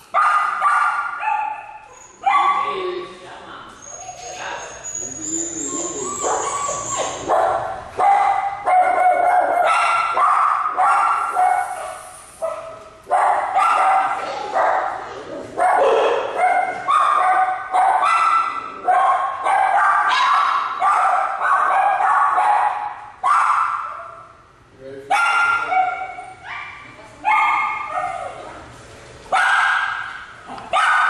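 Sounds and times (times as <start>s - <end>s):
small dog barking: 0.1s - 2.8s, 6.2s - 15.0s, 15.6s - 24.2s, 25.1s - 28.4s, 29.3s - 31.0s.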